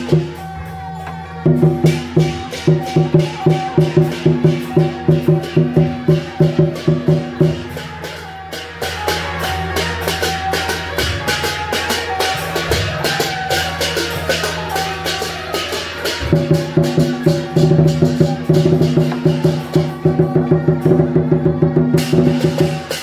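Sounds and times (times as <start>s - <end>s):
crashing percussion strokes: 0.0s - 23.0s
drum beating: 0.0s - 23.0s.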